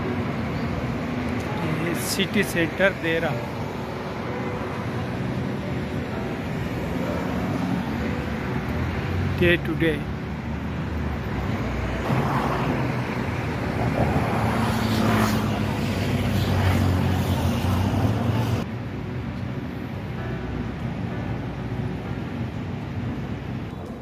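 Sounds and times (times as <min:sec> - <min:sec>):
car engines: 0:00.0 - 0:24.0.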